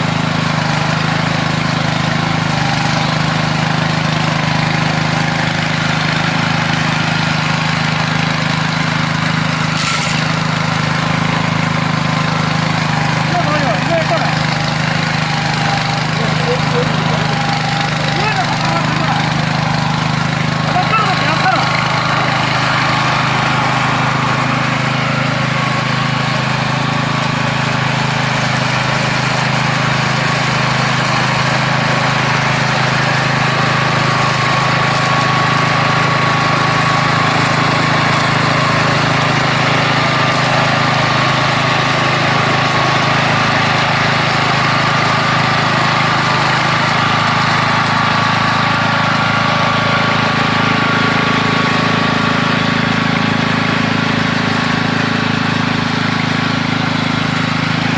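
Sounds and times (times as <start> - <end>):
weed mower droning and whining: 0.0 - 57.9.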